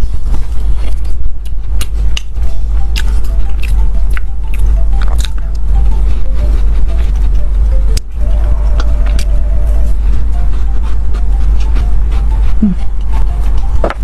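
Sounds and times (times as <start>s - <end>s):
crunchy cookies being chewed: 0.0s - 14.0s.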